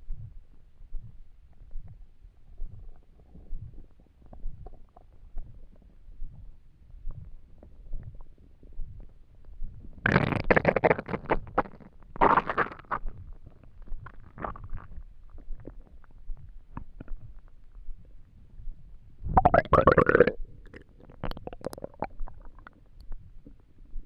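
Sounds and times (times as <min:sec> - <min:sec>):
stomach rumbling and gurgling: 0:00.1 - 0:24.0.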